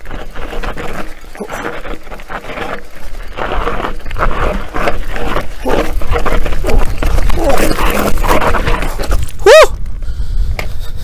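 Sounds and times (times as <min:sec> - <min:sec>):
bike tyres crunching over stones: 0:00.0 - 0:10.1
bike rattling: 0:00.0 - 0:11.0
wind rumble on microphone: 0:00.0 - 0:11.0.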